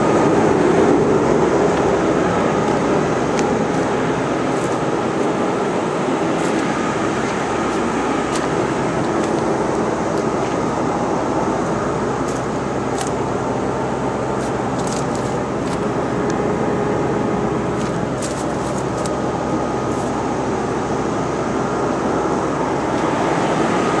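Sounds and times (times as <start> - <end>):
cooling tower rushing noise: 0.0 - 24.0
faint steady hums: 0.0 - 24.0.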